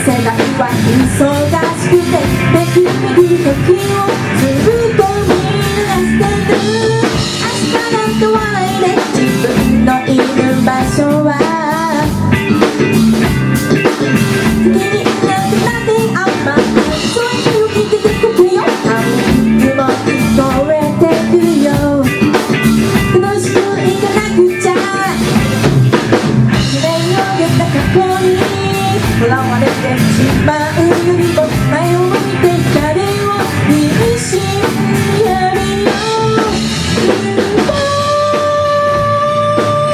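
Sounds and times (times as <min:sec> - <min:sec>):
person singing: 0:00.0 - 0:12.7, 0:14.4 - 0:25.7, 0:26.5 - 0:39.9
drum kit: 0:00.0 - 0:39.9
guitar: 0:00.0 - 0:39.9
rock band playing: 0:00.0 - 0:39.9.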